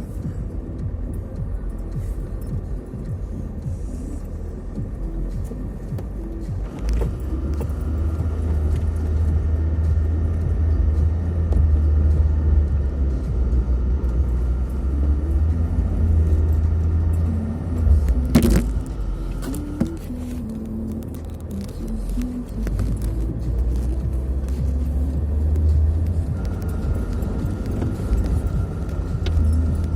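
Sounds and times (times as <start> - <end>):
vehicle engine rumble: 0.0 - 29.9.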